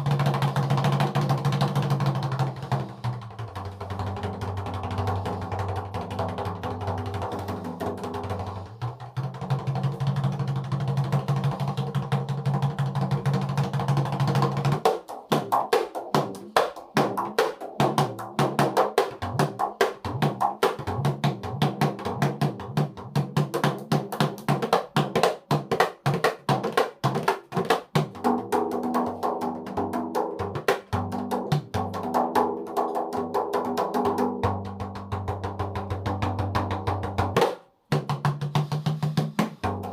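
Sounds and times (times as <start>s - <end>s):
frame drums beaten fast: 0.0s - 39.9s.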